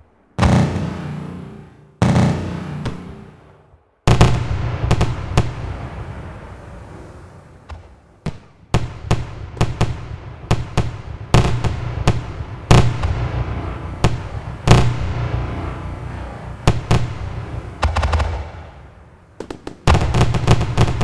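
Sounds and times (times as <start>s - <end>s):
fireworks bursting with bangs: 0.0s - 21.0s.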